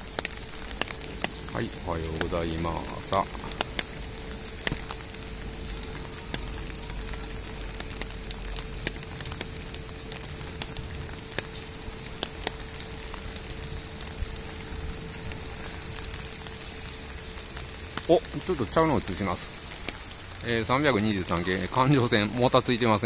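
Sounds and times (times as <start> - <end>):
constant low hum: 0.0 - 23.0
light rain hissing: 0.0 - 23.0
raindrops ticking: 0.0 - 23.0.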